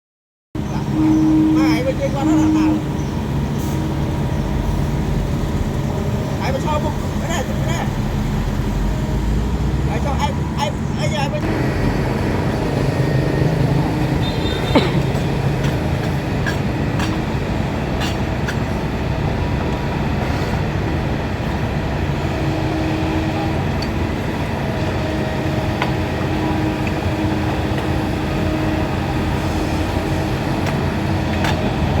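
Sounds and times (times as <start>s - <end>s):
excavator engine and hydraulics: 0.6s - 32.0s.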